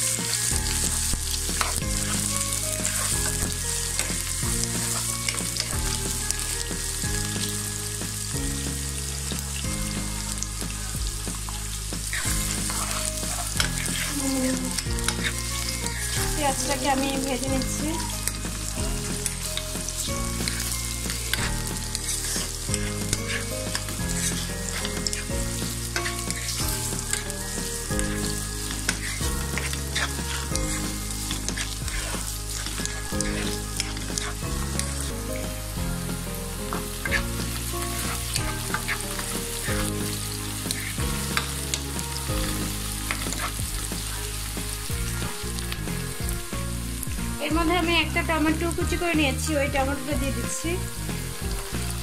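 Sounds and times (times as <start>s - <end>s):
wooden spatula scraping pan: 0.0s - 10.0s, 11.3s - 47.4s
onions sizzling in oil: 0.0s - 52.0s.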